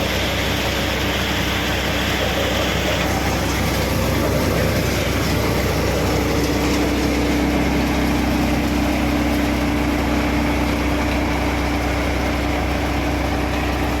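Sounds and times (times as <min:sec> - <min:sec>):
steady hum: 0:00.0 - 0:14.0
tractor engine running: 0:00.0 - 0:14.0.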